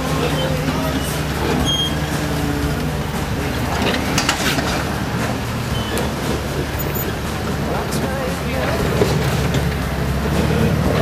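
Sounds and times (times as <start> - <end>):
engine running: 0.0 - 11.0
scraping and knocking: 0.0 - 11.0.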